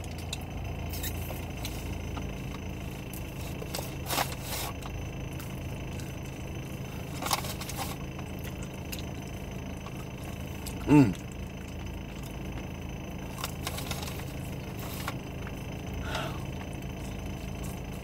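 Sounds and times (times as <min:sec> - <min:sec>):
low hum inside car: 0:00.0 - 0:18.0.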